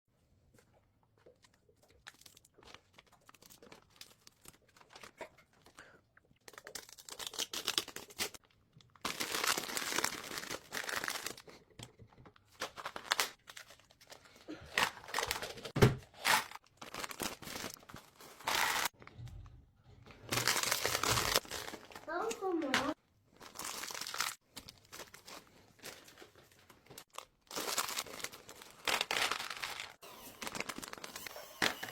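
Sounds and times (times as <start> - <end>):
snack packaging crinkling and tearing: 1.3 - 19.0, 20.3 - 22.4, 23.3 - 31.3.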